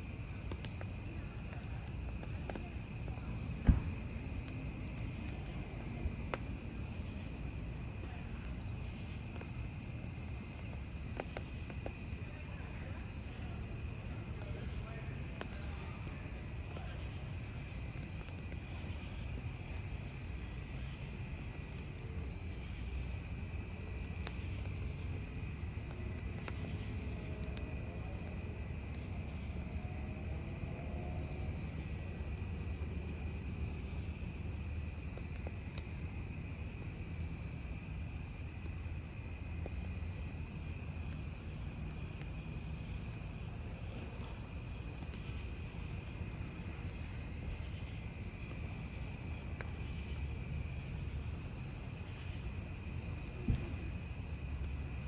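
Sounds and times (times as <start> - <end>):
crickets chirping: 0.0 - 55.0
fire crackles: 0.0 - 55.0
wood fire burning: 0.0 - 55.0.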